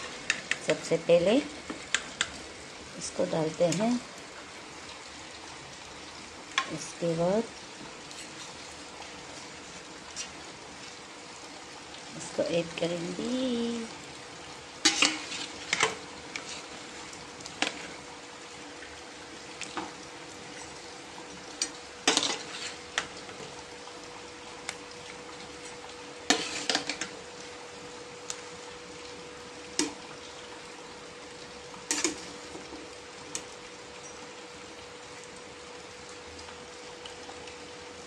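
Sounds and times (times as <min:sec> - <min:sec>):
pot boiling hiss: 0:00.0 - 0:38.0.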